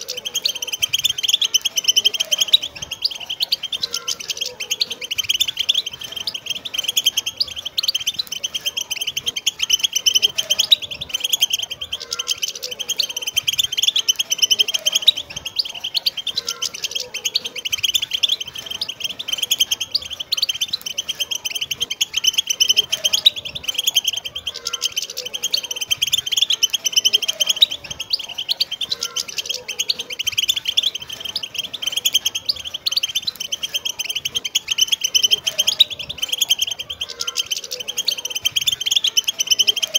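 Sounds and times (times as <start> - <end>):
flock of finches twittering: 0.0 - 39.9.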